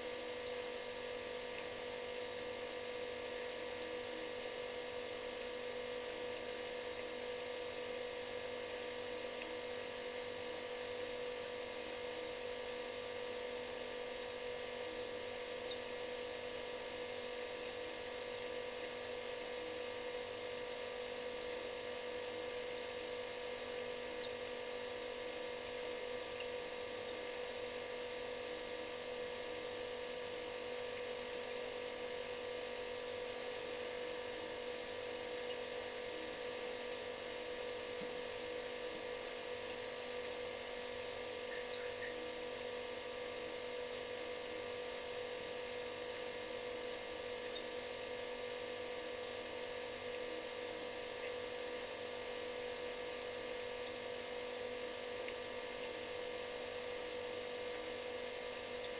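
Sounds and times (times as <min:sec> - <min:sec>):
refrigerator humming: 0:00.0 - 0:58.9.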